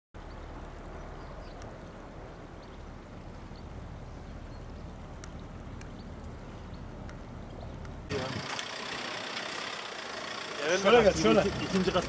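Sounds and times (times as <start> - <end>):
outdoor rumble and hiss: 0.2 - 12.0.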